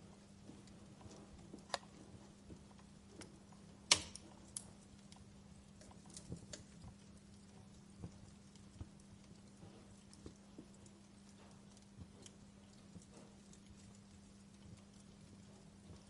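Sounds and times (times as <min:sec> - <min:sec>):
faint steady hum: 0:00.0 - 0:16.0
fire crackling and popping: 0:00.0 - 0:16.0.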